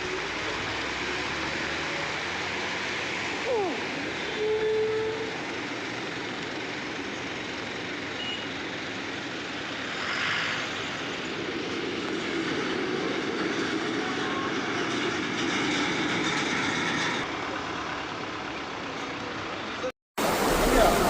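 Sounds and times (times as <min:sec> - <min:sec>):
train rumble and hiss: 0:00.0 - 0:21.0.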